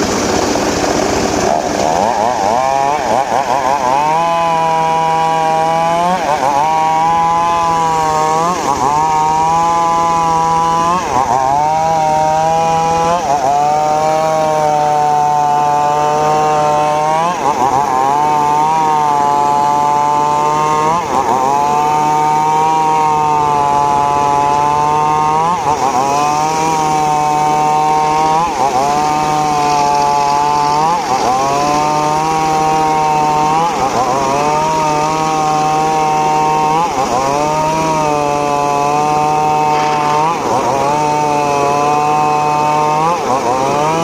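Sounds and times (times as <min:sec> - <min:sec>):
engine-driven saw cutting wood: 0:00.0 - 0:44.0.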